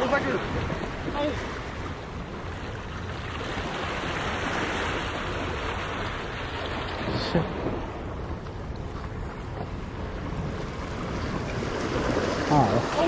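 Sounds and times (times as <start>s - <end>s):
waves washing against rocks: 0.0s - 13.0s
wind buffeting microphone: 0.0s - 13.0s.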